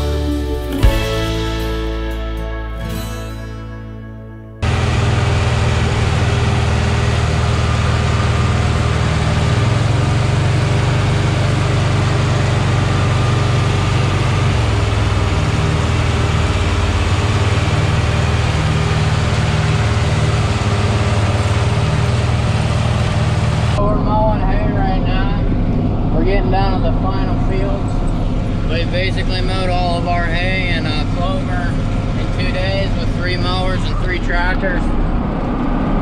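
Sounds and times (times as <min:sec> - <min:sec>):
diesel tractor engine droning: 0:00.0 - 0:36.0
hay mower running: 0:04.6 - 0:36.0.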